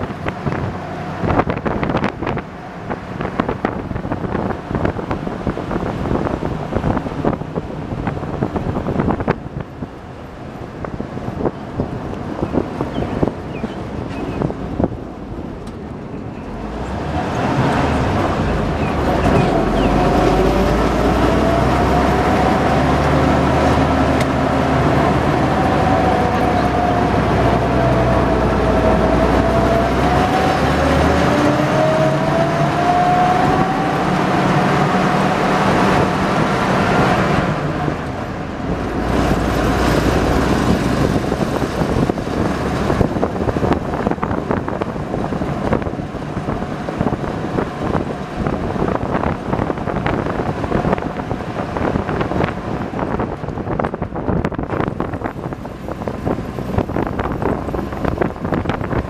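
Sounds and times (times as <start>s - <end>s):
drivetrain whine: 0.0s - 59.0s
truck engine running: 0.0s - 59.0s
tyre and road noise: 0.0s - 59.0s.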